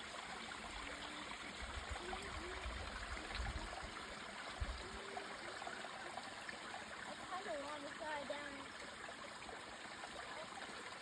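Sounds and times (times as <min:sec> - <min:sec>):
water cascading into stream: 0:00.0 - 0:11.0.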